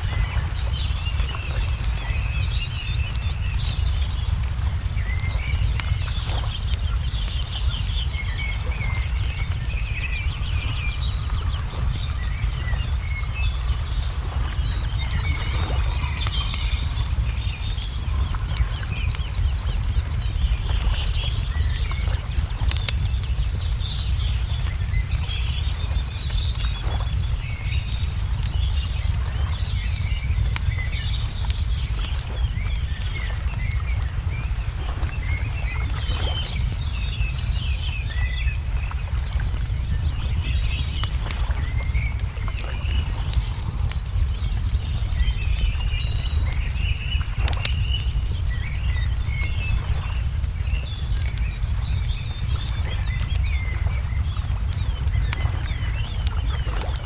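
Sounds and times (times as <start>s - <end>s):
low rumble: 0.0s - 57.0s
small birds chirping: 0.0s - 57.0s
wood fire crackling and popping: 0.0s - 57.0s.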